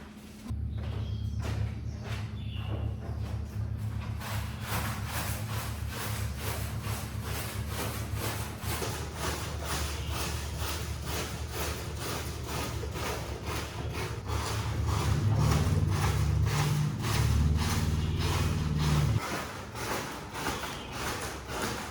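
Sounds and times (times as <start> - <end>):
steady low hum: 0.4 - 19.2
hand tool scraping rug: 2.0 - 21.9.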